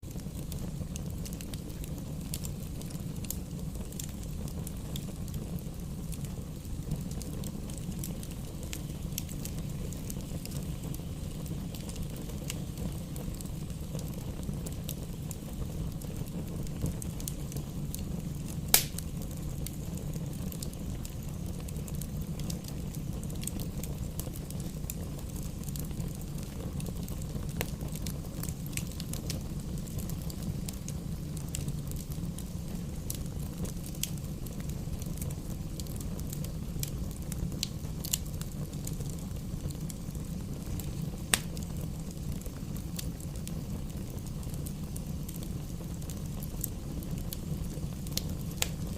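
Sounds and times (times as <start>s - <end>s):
campfire flames rushing: 0.0s - 48.9s
fire crackling and popping: 0.0s - 48.9s.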